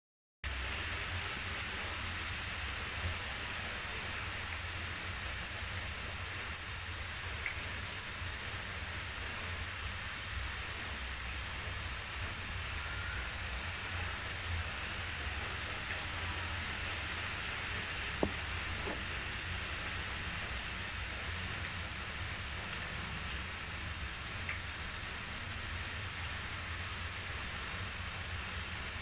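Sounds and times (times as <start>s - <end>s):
steady hiss: 0.5s - 29.0s.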